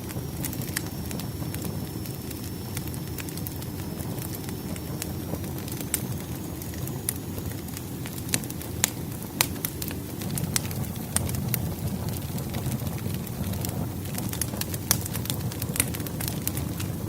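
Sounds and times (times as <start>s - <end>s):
firewood crackling and popping: 0.0s - 17.0s
low flame rumble: 0.0s - 17.0s.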